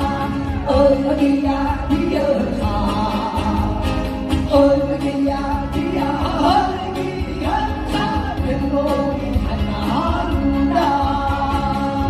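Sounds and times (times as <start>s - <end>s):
band accompaniment with steady beat: 0.0s - 12.0s
group singing folk song: 0.0s - 12.0s.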